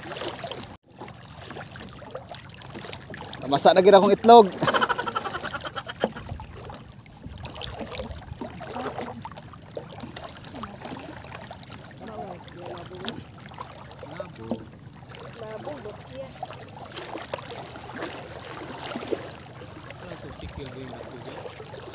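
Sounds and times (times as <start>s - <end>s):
water sloshing around wading legs: 0.0s - 21.9s.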